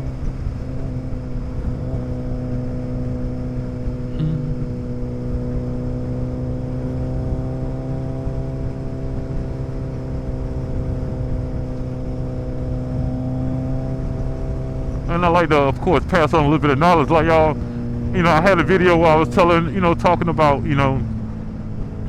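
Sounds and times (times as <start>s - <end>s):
motorcycle engine cruising: 0.0s - 22.0s
wind and road noise: 0.0s - 22.0s.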